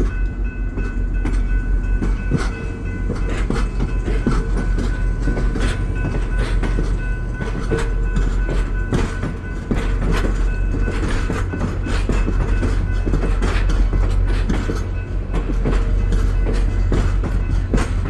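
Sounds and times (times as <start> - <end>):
train engine rumble: 0.0 - 18.0
wheels clanking over rail joints: 0.0 - 18.0.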